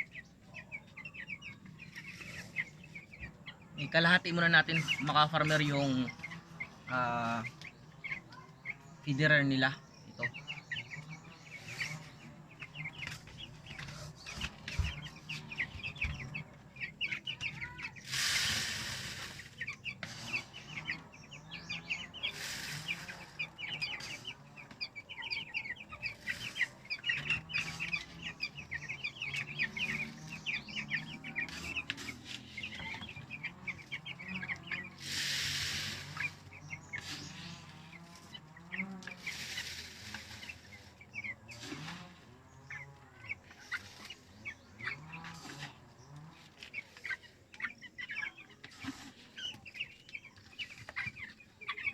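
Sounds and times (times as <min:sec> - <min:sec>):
chicks peeping and chirping: 0:00.0 - 0:51.9.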